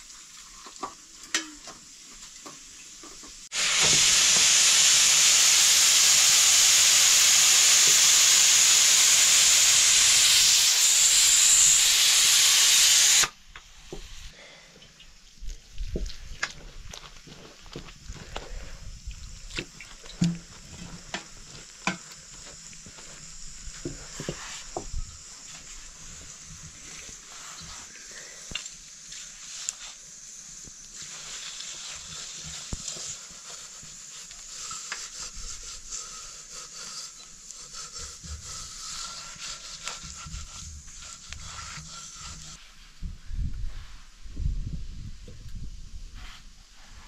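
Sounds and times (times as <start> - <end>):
food sizzling in a pan: 0.0 - 14.3, 18.9 - 42.6.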